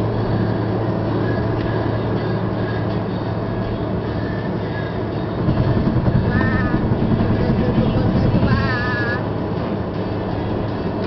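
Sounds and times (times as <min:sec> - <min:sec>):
car engine hum: 0:00.0 - 0:11.0
tyre and road noise: 0:00.0 - 0:11.0.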